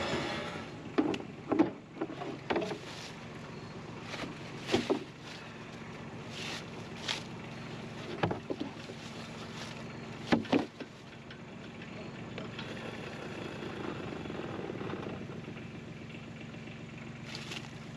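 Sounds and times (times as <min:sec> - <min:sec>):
sawmill engine running: 0:00.0 - 0:17.9.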